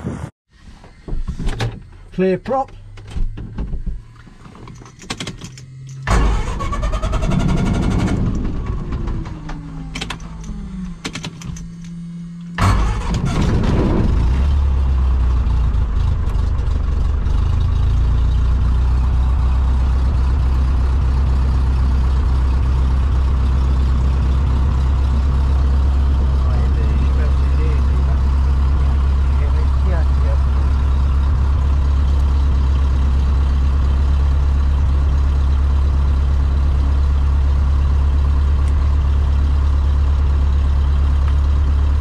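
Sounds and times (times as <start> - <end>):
airplane engine starting and idling: 0.0 - 42.0.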